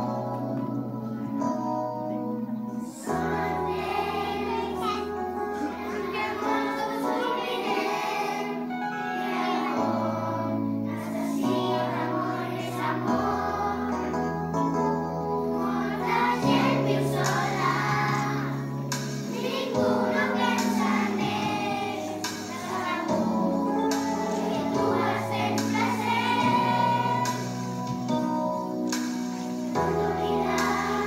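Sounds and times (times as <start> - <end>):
children's choir singing: 0.0 - 14.4, 15.5 - 31.0
instrumental accompaniment with bass: 0.0 - 31.0.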